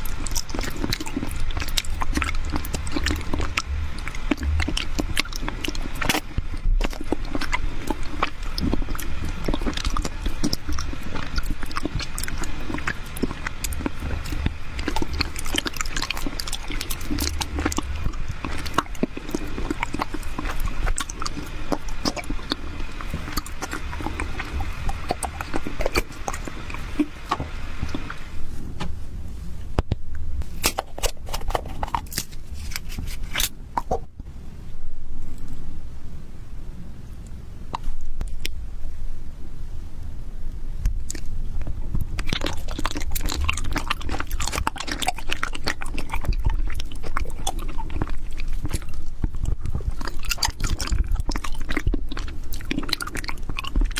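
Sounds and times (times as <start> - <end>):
chewing sticky sweet: 0.0 - 28.5, 30.4 - 34.1, 40.5 - 53.9.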